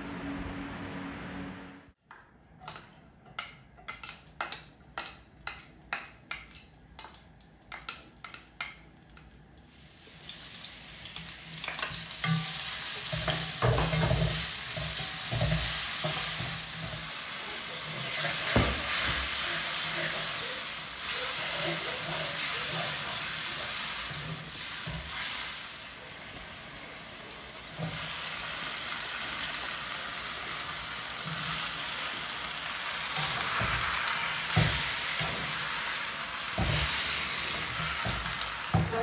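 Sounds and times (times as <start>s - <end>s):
food sizzling in hot oil: 5.0s - 39.0s.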